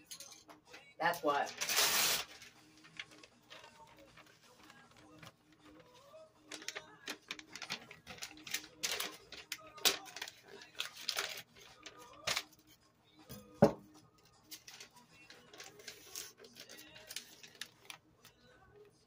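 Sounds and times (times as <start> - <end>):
paper rustling and crinkling: 1.2 - 12.8, 14.3 - 19.0.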